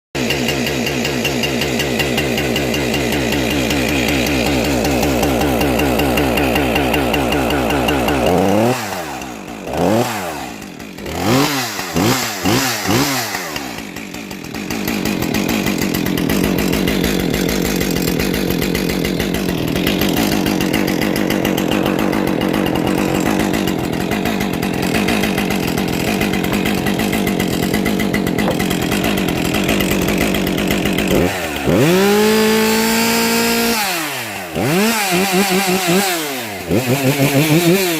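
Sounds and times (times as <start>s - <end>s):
chainsaw running: 0.2s - 37.9s.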